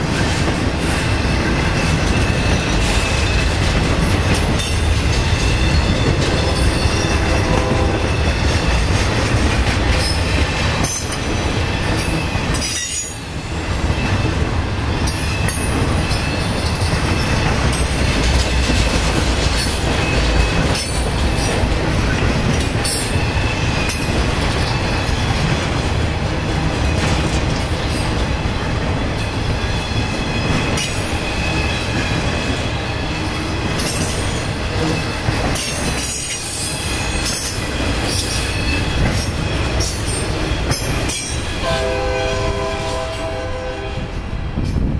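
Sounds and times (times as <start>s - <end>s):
freight train cars rolling past: 0.0s - 44.9s.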